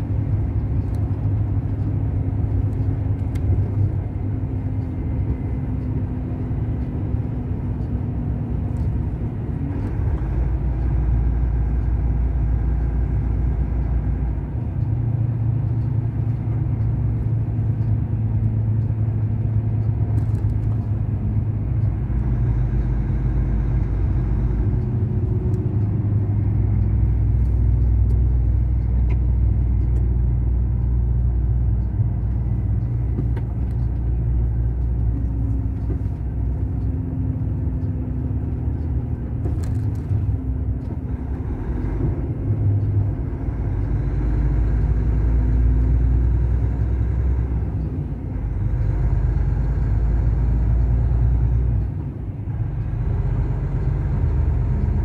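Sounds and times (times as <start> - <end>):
truck diesel engine drone: 0.0 - 55.0
tyres on wet road: 0.0 - 55.0.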